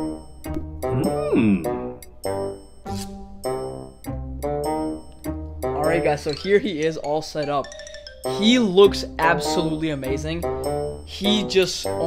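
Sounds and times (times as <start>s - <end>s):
light tune of pitched notes: 0.8s - 12.0s.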